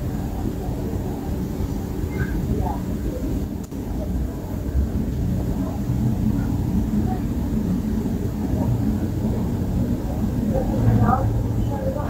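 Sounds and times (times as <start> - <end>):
faint indistinct voices: 0.0 - 12.0.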